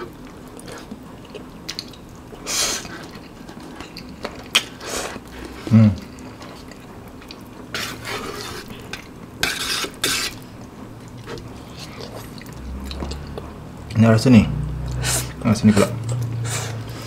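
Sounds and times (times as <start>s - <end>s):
slurping and chewing noodles: 0.0s - 14.0s, 14.7s - 17.0s.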